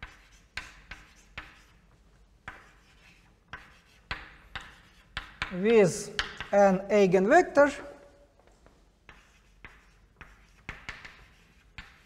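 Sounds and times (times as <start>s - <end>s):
chalk scratching strokes: 0.0s - 6.6s, 8.6s - 12.0s
chalk tapping on chalkboard: 0.0s - 6.6s, 8.6s - 12.0s.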